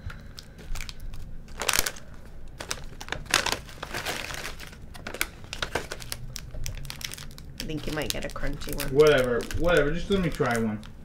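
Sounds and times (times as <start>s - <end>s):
candy wrappers crinkling: 0.0s - 11.0s.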